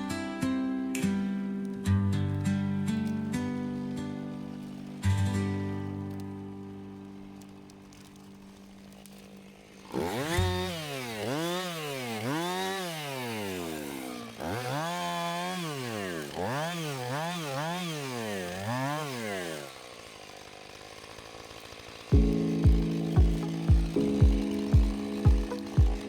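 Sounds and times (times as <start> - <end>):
chainsaw engine revving: 2.2 - 26.0.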